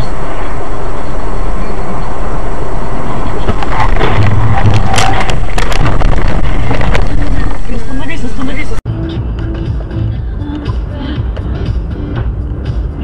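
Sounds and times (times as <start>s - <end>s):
vehicle driving noise: 0.0s - 13.0s.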